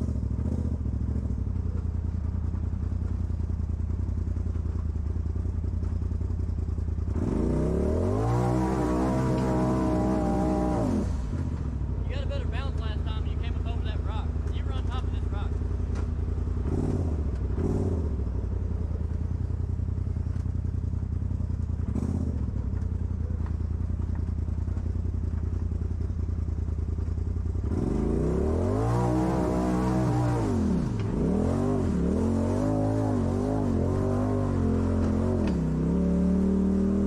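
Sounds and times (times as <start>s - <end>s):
vehicle engine idling and revving: 0.0s - 37.0s.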